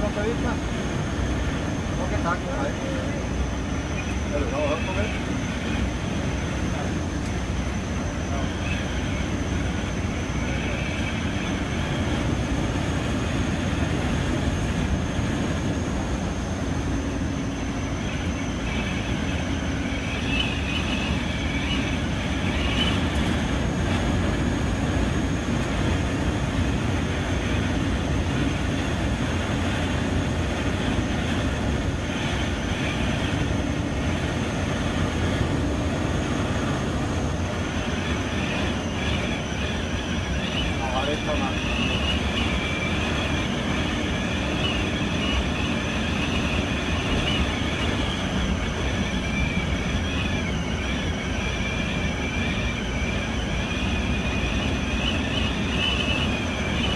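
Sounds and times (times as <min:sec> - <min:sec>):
bus rumbling on road: 0:00.0 - 0:56.9
thin high whine: 0:00.0 - 0:56.9.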